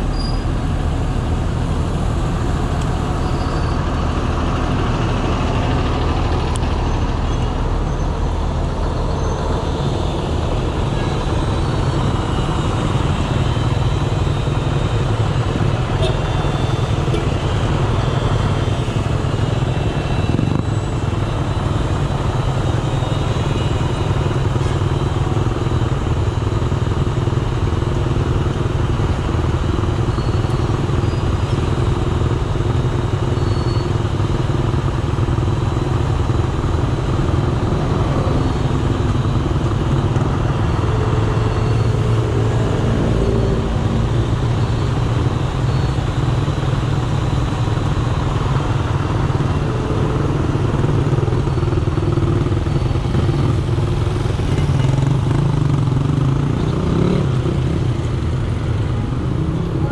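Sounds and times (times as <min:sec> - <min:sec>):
idling engines rumbling: 0:00.0 - 0:59.9.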